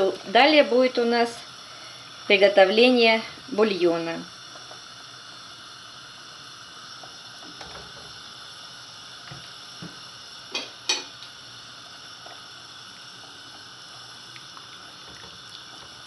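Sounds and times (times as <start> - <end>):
pot of hot water hissing: 0.0 - 16.0.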